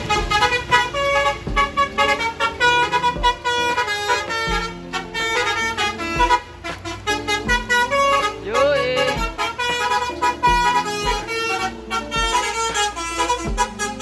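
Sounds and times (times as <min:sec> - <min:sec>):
bus musical horn melody: 0:00.0 - 0:14.0.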